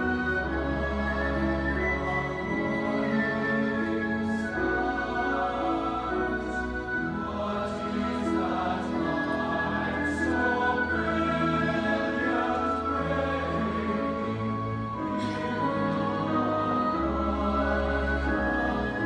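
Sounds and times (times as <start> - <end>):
choir singing a carol: 0.0 - 19.0
orchestral accompaniment: 0.0 - 19.0.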